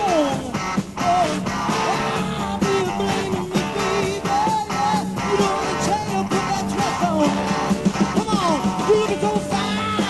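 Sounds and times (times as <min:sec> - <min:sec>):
person singing: 0:00.0 - 0:07.6, 0:08.3 - 0:10.0
live rock band playing: 0:00.0 - 0:10.0.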